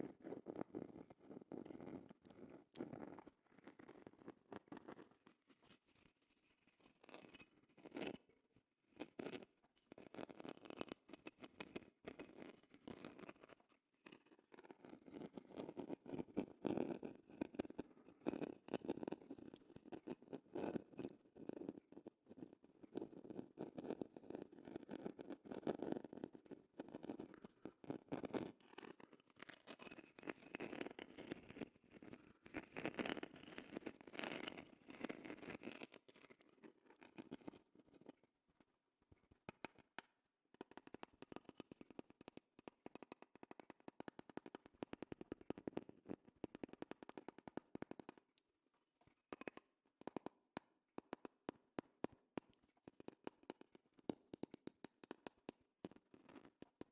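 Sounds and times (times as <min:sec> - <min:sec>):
scratching on a shell: 0:00.0 - 0:38.7, 0:49.0 - 0:56.9.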